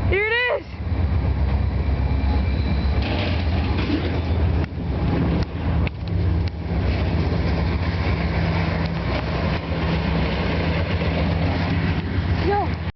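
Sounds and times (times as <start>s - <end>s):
train rumbling past: 0.0s - 12.9s
low hum: 0.7s - 12.9s.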